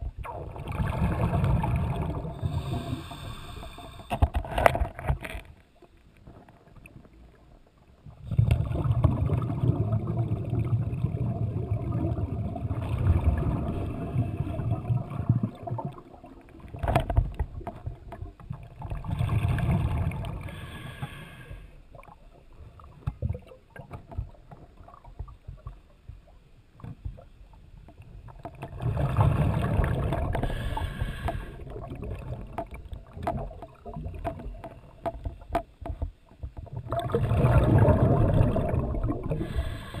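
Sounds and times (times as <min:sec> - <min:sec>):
underwater bubbles gurgling: 0:00.0 - 0:40.0.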